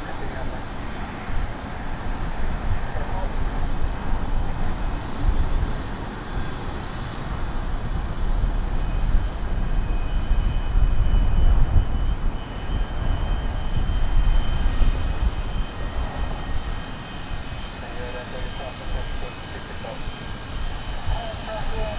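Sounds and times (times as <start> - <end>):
jet engines rumbling and whining: 0.0 - 21.9.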